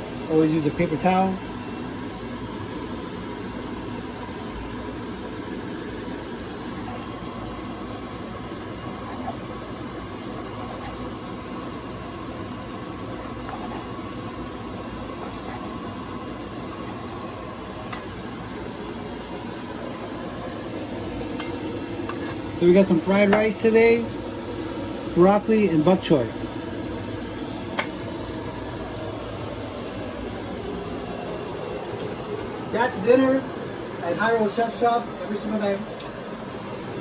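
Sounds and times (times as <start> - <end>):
mechanical hum and hiss: 0.0 - 37.0.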